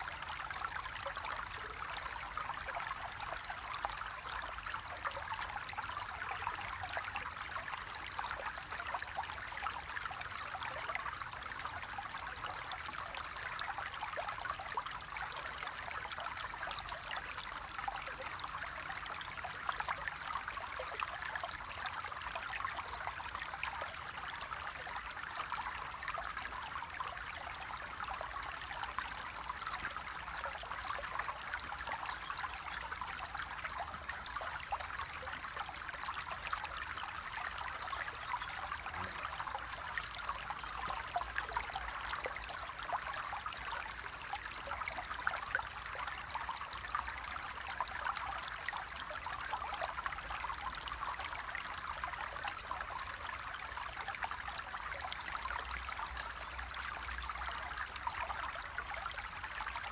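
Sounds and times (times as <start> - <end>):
running water babbling: 0.0 - 59.9.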